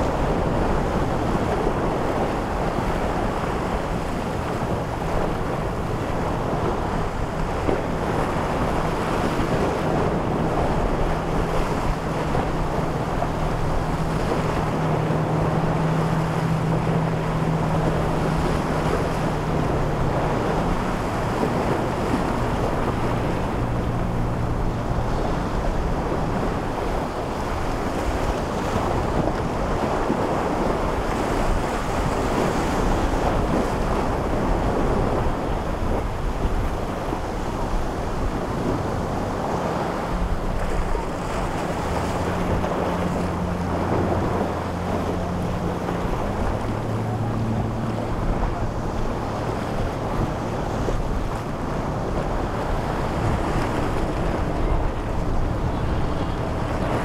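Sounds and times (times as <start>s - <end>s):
boat engine humming: 0.0s - 57.0s
waves washing: 0.0s - 57.0s
wind buffeting the microphone: 0.0s - 57.0s.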